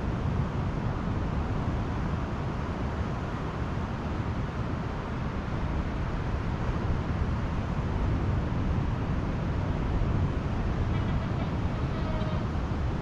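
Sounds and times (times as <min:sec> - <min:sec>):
surf washing on sandy beach: 0:00.0 - 0:13.0.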